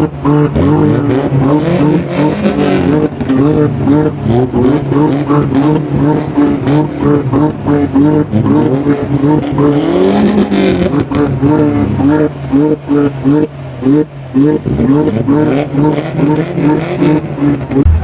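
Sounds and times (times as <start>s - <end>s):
car engine revving: 0.0s - 18.0s
drone of car engines: 0.0s - 18.0s.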